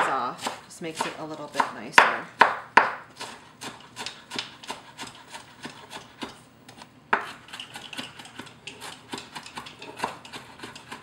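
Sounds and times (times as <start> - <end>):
knife chopping on wooden board: 0.0 - 6.4, 7.1 - 11.0.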